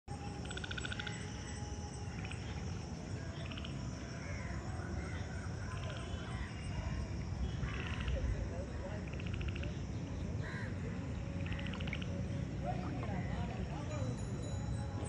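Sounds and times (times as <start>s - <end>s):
high insect drone: 0.1s - 15.0s.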